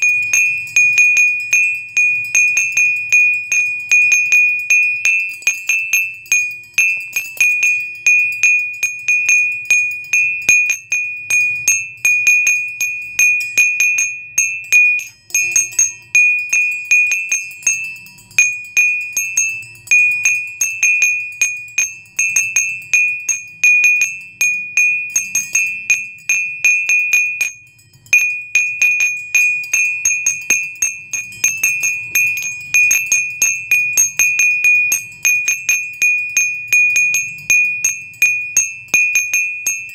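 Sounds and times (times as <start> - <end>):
tinkling bell tones music: 0.0 - 39.9.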